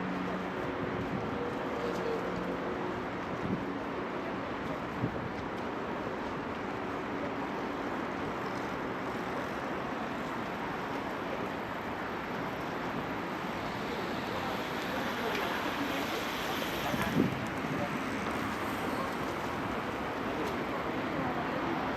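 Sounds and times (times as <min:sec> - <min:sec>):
distant road traffic hum: 0:00.0 - 0:21.9.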